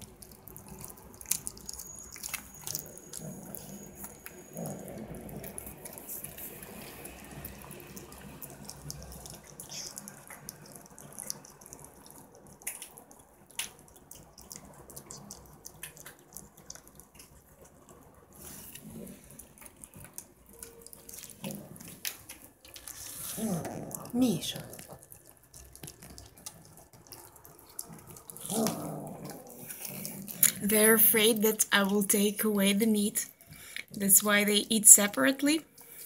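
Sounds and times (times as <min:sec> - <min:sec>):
kittens chewing meat and bone: 0:00.0 - 0:36.0.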